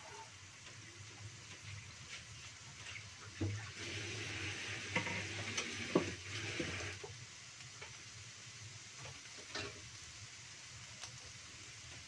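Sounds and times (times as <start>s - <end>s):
shallots and garlic sizzling in oil: 0.0s - 12.0s.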